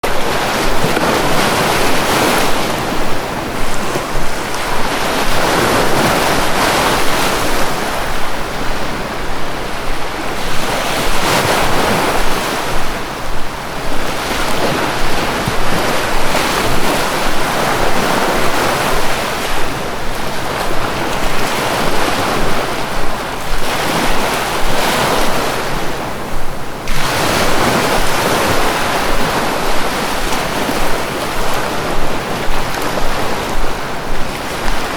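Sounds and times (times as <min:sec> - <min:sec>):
sea waves breaking: 0:00.0 - 0:34.9.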